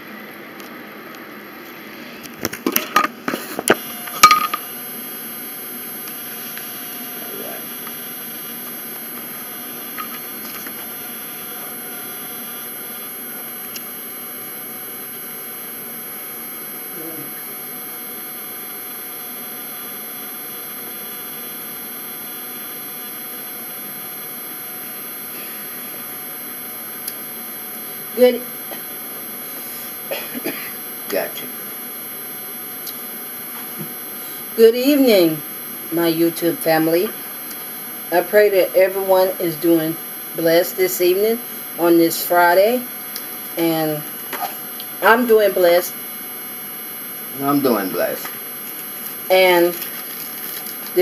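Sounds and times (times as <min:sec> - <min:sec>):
room hum and hiss: 0:00.0 - 0:51.0.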